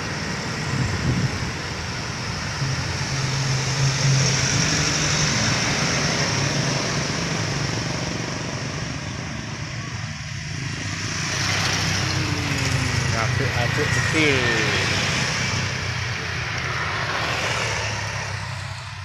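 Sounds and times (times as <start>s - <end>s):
truck diesel engine pulling hard: 0.0s - 19.0s.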